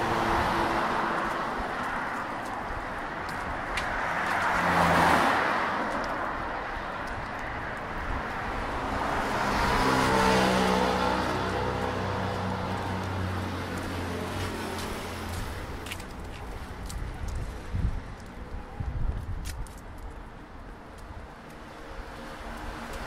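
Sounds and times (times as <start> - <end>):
cars passing: 0.0 - 23.0.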